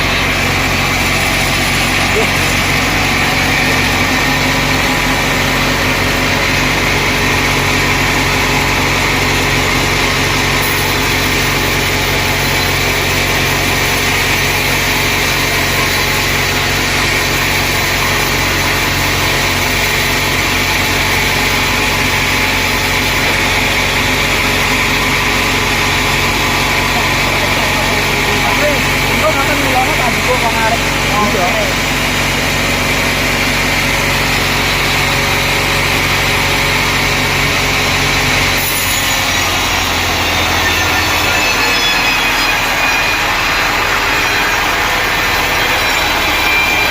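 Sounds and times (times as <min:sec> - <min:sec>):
sawmill machinery hum: 0:00.0 - 0:46.9.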